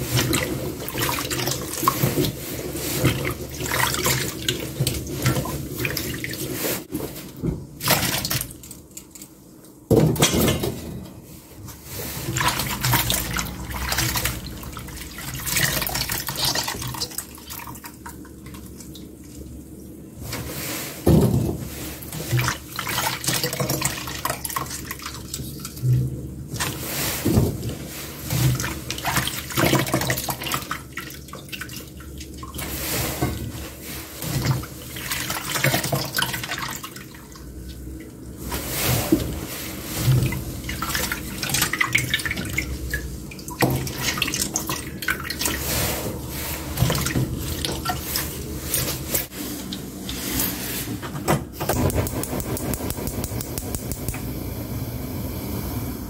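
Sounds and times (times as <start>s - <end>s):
water sloshing in metal basin: 0.0s - 9.2s, 10.1s - 19.7s, 20.3s - 50.8s.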